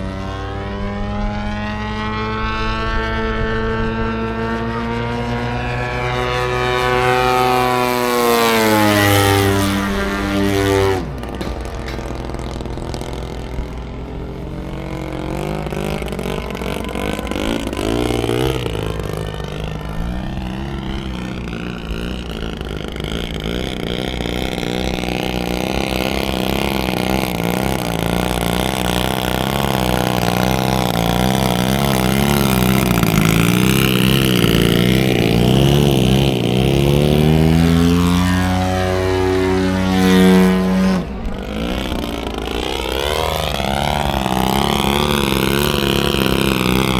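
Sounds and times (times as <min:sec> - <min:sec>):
model airplane engine: 0:00.0 - 0:46.9.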